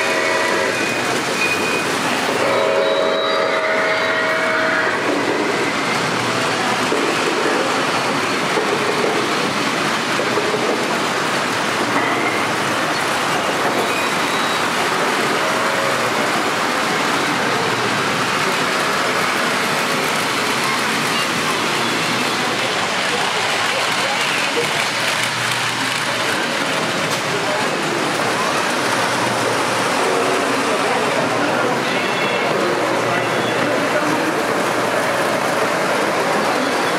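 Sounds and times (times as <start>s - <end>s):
model train wheels rumbling on rails: 0.0s - 36.9s.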